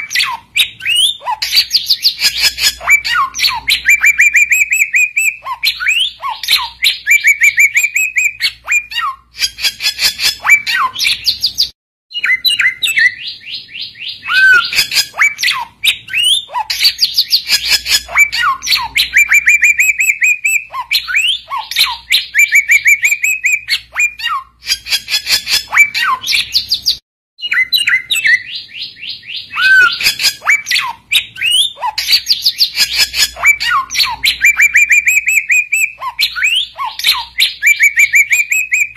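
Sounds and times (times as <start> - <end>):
bird chattering song with trill: 0.0 - 38.9.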